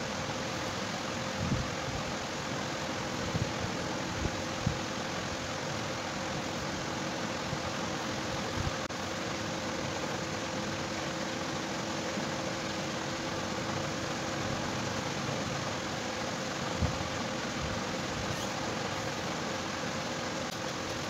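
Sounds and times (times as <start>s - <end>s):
steady machine hum with hiss: 0.0s - 21.0s.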